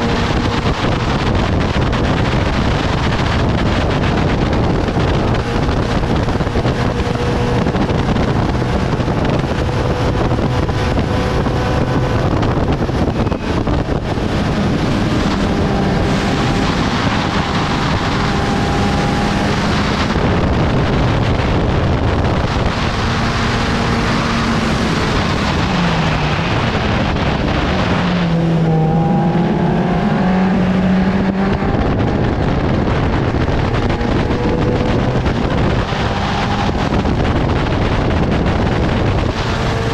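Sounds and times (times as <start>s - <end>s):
racing car engine: 0.0s - 39.9s
wind rushing on microphone: 0.0s - 39.9s.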